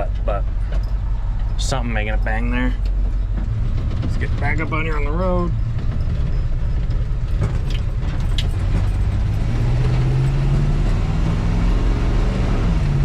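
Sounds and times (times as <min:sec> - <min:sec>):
pickup engine and road rumble: 0:00.0 - 0:13.0.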